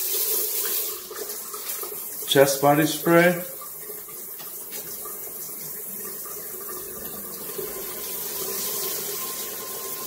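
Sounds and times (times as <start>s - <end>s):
shower jets spraying water: 0.0s - 10.0s.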